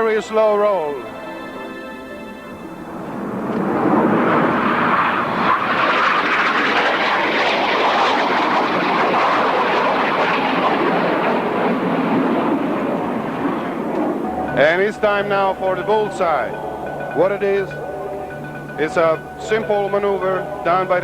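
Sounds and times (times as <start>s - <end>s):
jets flying past: 2.2s - 21.0s.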